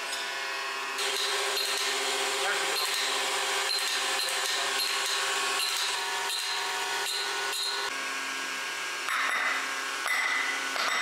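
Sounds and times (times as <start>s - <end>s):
machine running with regular pulse: 0.4s - 11.0s.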